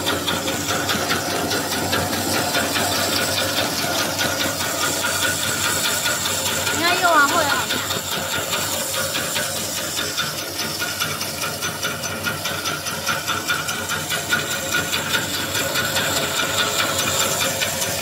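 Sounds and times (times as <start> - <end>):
extruder motor whining with pulsing: 0.0 - 18.0.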